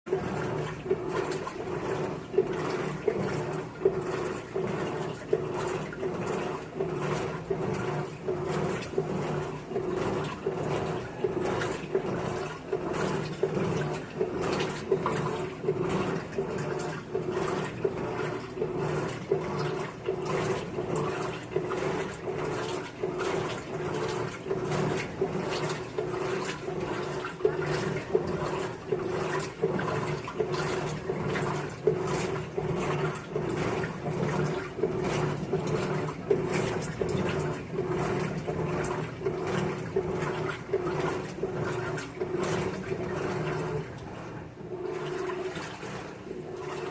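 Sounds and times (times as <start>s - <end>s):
washing machine motor hum: 0.0s - 46.9s
water sloshing: 0.1s - 46.9s.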